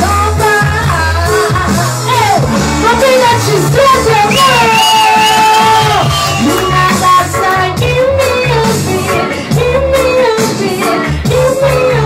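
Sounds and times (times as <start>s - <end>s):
heavy rhythmic bass line: 0.0s - 12.0s
woman singing reggae: 0.0s - 12.0s.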